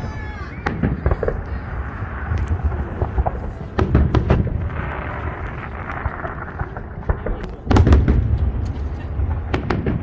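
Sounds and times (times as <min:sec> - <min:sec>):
firework bangs: 0:00.0 - 0:10.0
fireworks crackling: 0:00.0 - 0:10.0
low rumble of fireworks display: 0:00.0 - 0:10.0.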